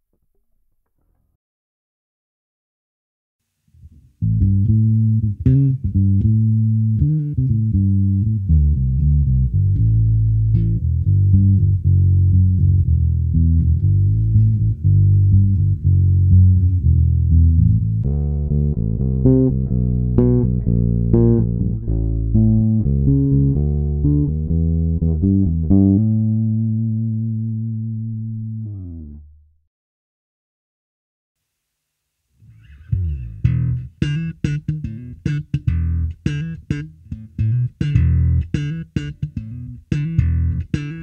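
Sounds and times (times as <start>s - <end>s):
plucked bass guitar: 3.8s - 29.6s, 32.4s - 41.0s.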